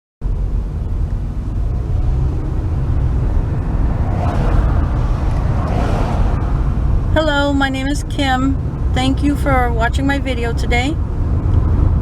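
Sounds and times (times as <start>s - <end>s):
car engine and tyre rumble: 0.2s - 12.0s.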